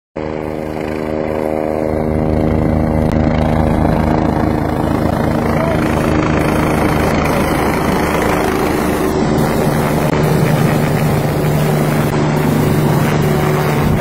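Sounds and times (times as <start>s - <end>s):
helicopter hovering overhead: 0.2s - 14.0s.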